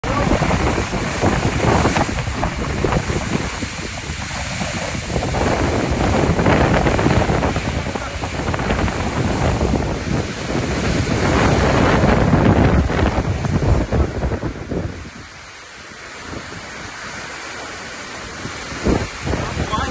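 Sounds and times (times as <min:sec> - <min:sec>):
heavy rain: 0:00.0 - 0:19.9
wind buffeting microphone: 0:00.0 - 0:19.9.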